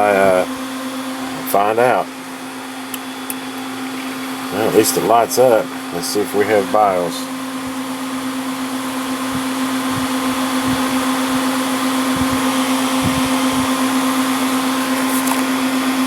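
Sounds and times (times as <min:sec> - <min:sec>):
computer fans whirring: 0:00.0 - 0:16.0.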